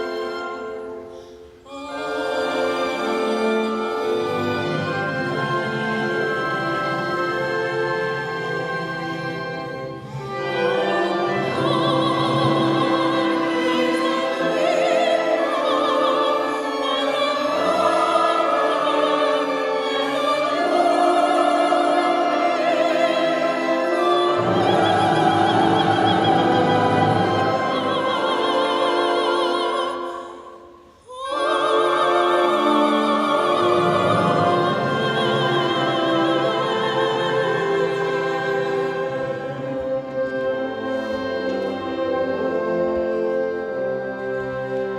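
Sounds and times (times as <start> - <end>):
orchestra playing: 0.0 - 30.3, 31.3 - 44.9
classical singing with vibrato: 0.0 - 44.9.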